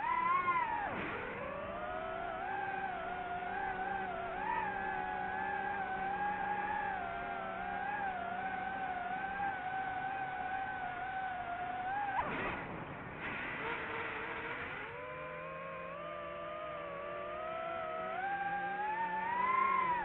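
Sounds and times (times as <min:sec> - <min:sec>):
race car engine at high revs: 0:00.0 - 0:20.0.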